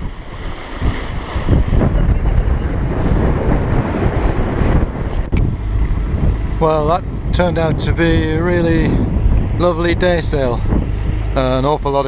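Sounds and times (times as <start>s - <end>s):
water rushing along boat hulls: 0.0s - 12.0s
wind buffeting microphone: 0.0s - 12.0s.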